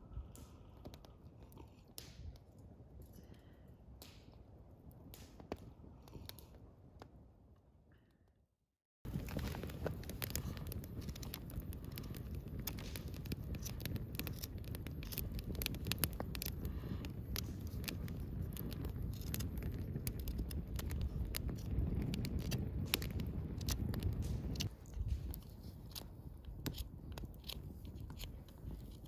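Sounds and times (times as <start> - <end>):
campfire crackling and popping: 0.1 - 7.2, 9.1 - 29.0.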